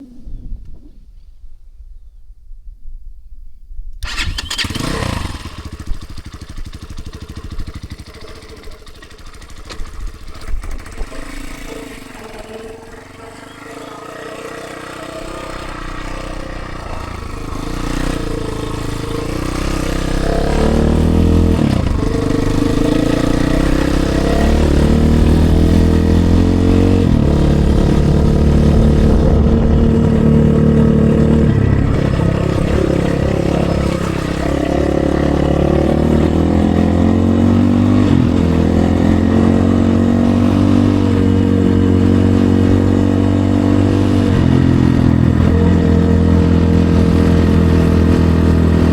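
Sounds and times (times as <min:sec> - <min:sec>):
motorcycle engine revving: 0:04.0 - 0:48.9.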